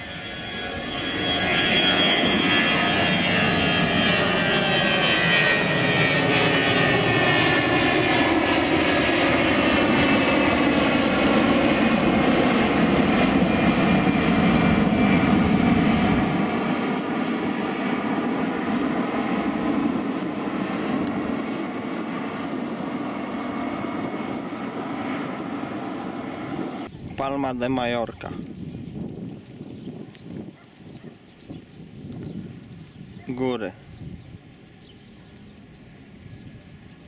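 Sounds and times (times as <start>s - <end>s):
jet airliner engines roaring: 0.0s - 37.0s.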